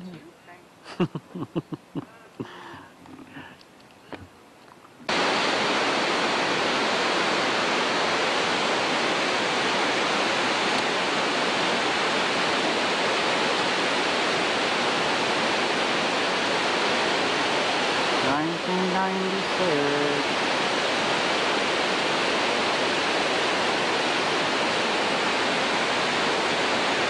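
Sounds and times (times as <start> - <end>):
waterfall rushing: 5.1 - 27.0.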